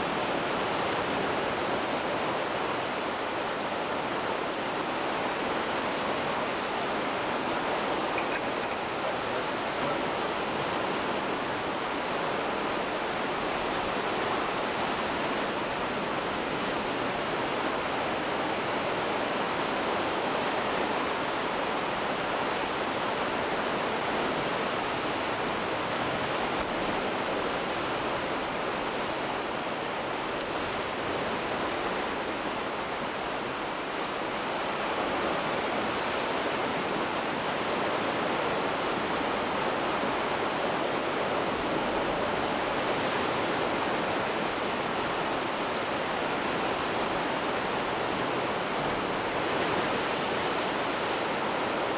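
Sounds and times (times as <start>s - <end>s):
sea surf rushing: 0.0s - 51.9s.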